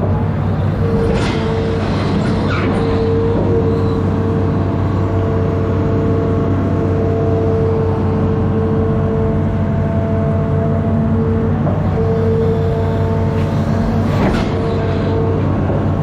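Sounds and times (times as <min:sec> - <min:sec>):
diesel engine droning: 0:00.0 - 0:16.0
steady whine: 0:00.0 - 0:16.0.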